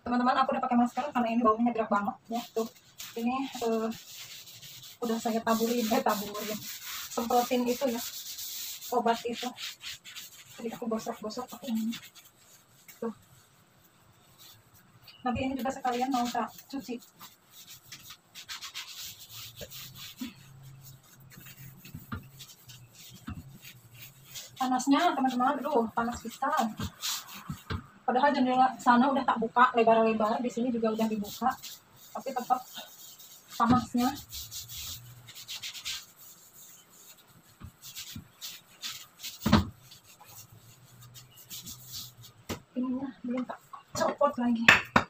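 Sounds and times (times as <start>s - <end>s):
sponge scrubbing: 2.2s - 27.7s, 30.2s - 42.5s.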